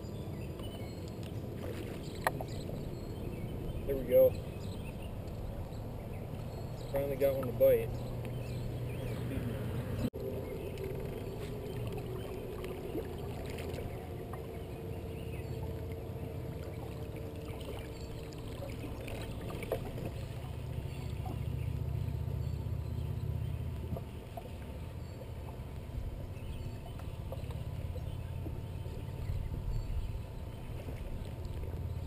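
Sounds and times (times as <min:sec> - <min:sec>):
faint hum: 0:00.0 - 0:32.0
low steady rumble: 0:00.0 - 0:32.0
water lapping against boat hull: 0:00.4 - 0:32.0.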